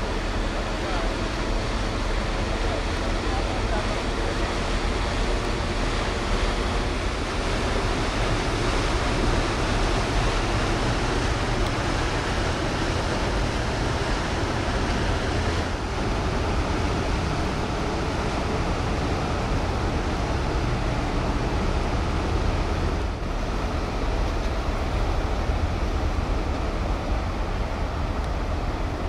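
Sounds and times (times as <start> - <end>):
deep ship engine rumble: 0.0 - 29.0
rushing water from ship wake: 0.0 - 29.0.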